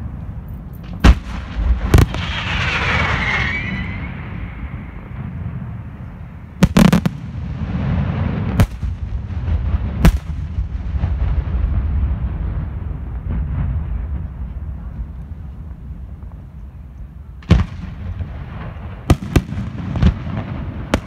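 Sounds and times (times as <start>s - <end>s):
low rumble: 0.0s - 17.4s
fireworks bursting with sharp bangs: 0.8s - 21.0s.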